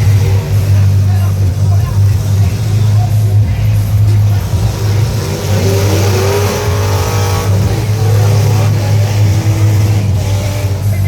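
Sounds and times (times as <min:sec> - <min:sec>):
steady low rumble: 0:00.0 - 0:11.0
truck engines revving: 0:00.0 - 0:11.0.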